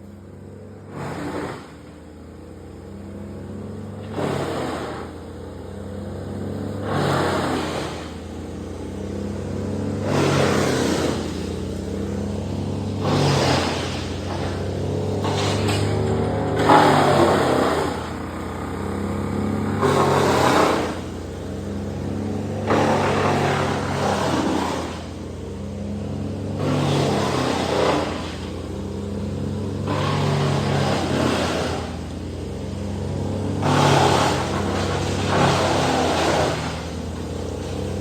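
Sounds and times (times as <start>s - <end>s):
engine running with surges: 0.0s - 38.0s.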